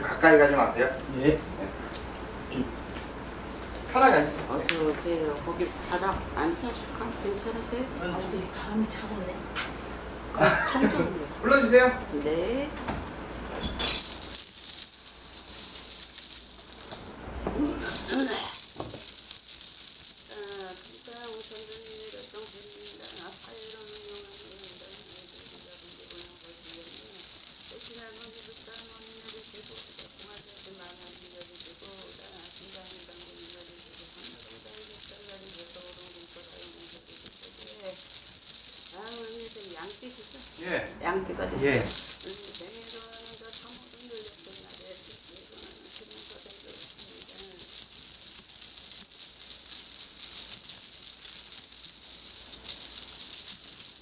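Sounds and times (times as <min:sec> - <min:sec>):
bells jingling: 0:03.9 - 0:09.1, 0:13.5 - 0:54.0.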